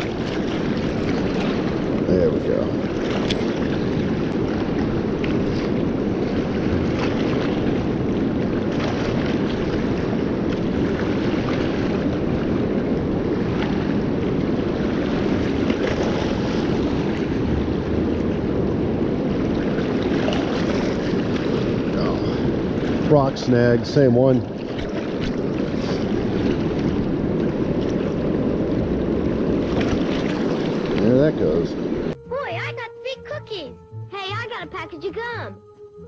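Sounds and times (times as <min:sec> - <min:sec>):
wind buffeting microphone: 0:00.0 - 0:32.8.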